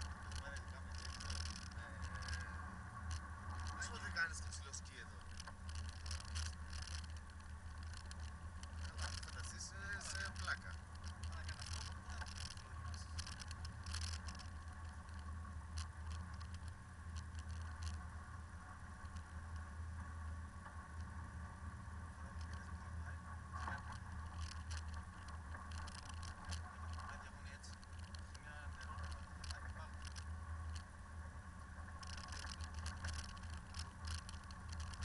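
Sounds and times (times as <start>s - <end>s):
vehicle clicks and knocks: 0.0s - 18.2s, 23.5s - 30.9s, 31.8s - 35.0s
vehicle engine drone: 0.0s - 35.0s.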